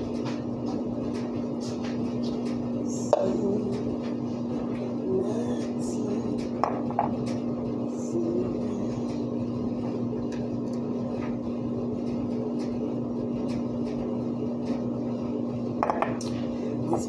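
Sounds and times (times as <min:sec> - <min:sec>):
appliance electric hum: 0:00.0 - 0:17.0.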